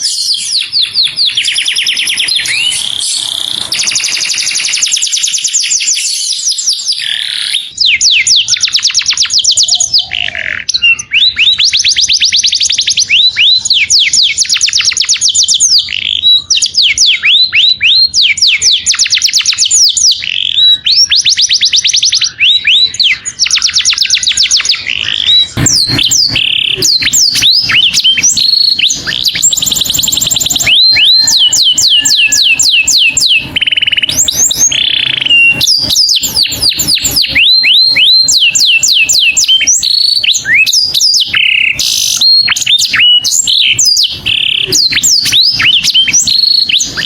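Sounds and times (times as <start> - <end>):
canary singing trills: 0.0 - 47.0.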